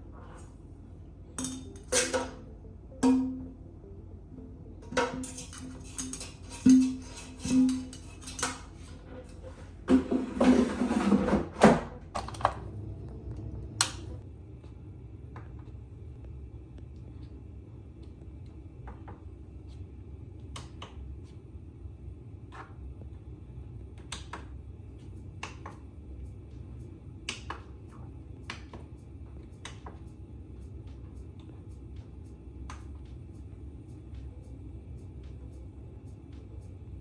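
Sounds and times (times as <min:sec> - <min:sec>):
quiet background music: 0:00.0 - 0:37.0.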